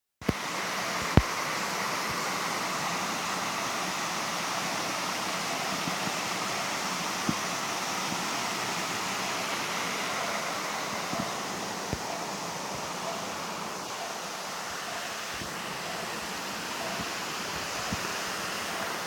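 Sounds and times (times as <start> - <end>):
stream rushing over rocks: 0.2 - 19.0.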